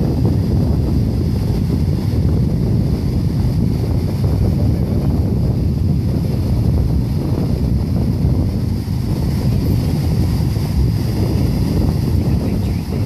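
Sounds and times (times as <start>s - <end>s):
small waves breaking on beach: 0.0s - 13.0s
wind buffeting microphone: 0.0s - 13.0s.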